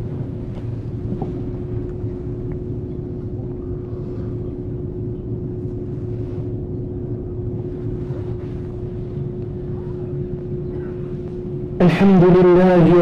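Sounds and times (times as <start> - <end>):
low rumble: 0.0 - 13.0
mid-pitched machine hum: 0.0 - 13.0.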